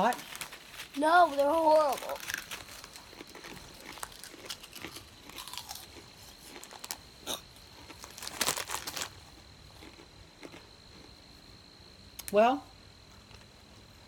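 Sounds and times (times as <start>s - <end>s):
breadsticks crunching when chewed: 0.0s - 11.4s.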